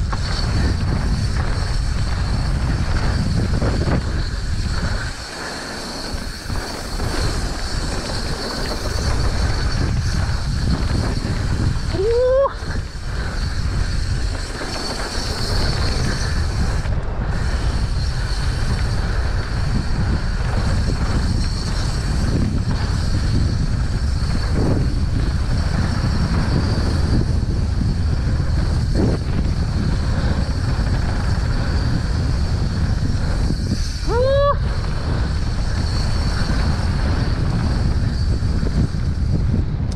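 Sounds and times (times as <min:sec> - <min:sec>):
bike rolling on rough ground: 0:00.0 - 0:39.9
wind buffeting microphone: 0:00.0 - 0:39.9.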